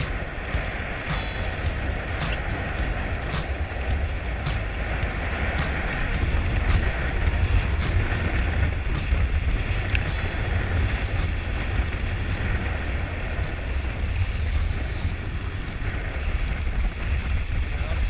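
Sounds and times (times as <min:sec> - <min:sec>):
water rushing along hulls: 0:00.0 - 0:18.0
wind buffeting microphone: 0:00.0 - 0:18.0.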